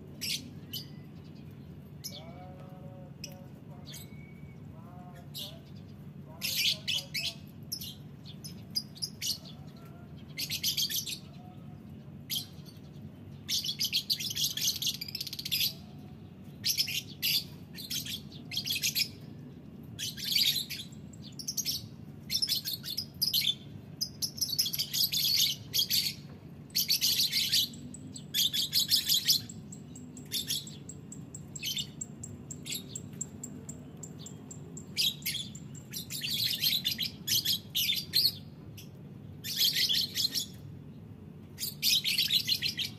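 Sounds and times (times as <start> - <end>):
lovebirds chirping: 0.1 - 42.9.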